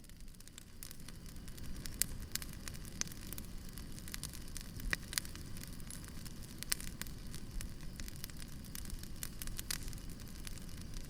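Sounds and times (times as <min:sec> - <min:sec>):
low rumble of burning logs: 0:00.0 - 0:11.0
wood fire crackling: 0:00.0 - 0:11.0.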